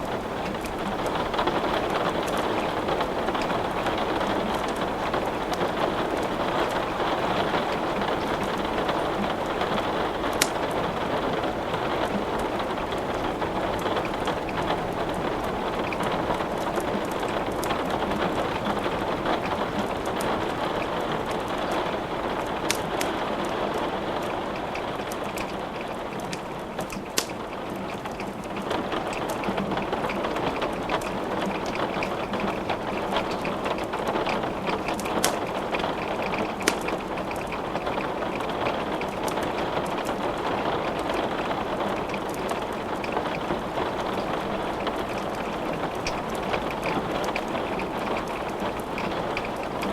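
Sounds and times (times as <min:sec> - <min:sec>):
burning wood crackling: 0:00.0 - 0:49.9
steady rain falling: 0:00.0 - 0:49.9.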